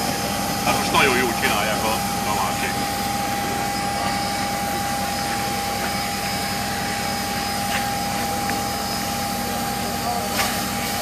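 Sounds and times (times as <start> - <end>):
hose spraying water: 0.0 - 11.0
pump humming and whining: 0.0 - 11.0.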